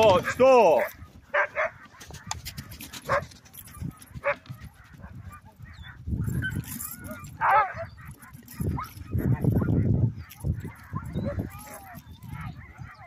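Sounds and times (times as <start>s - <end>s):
huskies yelping: 0.0s - 13.0s.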